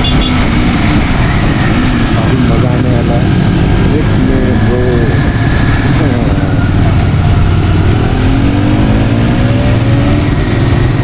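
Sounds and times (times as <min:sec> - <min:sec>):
motorcycle engine accelerating: 0:00.0 - 0:11.0
wind rush over microphone: 0:00.0 - 0:11.0.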